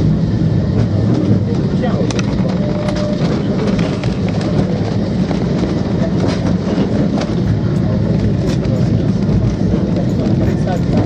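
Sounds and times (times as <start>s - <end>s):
tram low rumble: 0.0s - 11.0s
clicks from tram wheels: 0.7s - 11.0s.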